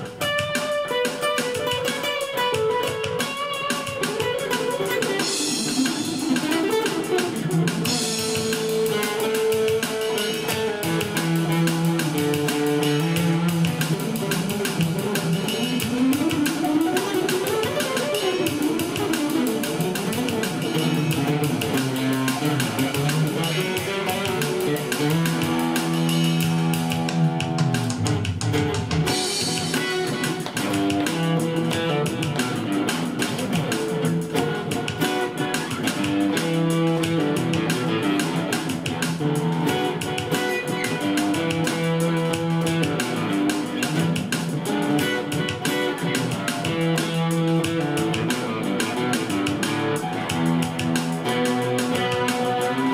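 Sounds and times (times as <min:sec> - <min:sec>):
funk guitar playing: 0:00.0 - 0:52.9.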